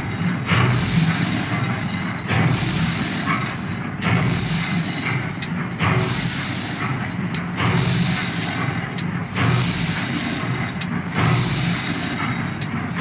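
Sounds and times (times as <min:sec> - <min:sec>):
low drone: 0:00.0 - 0:13.0.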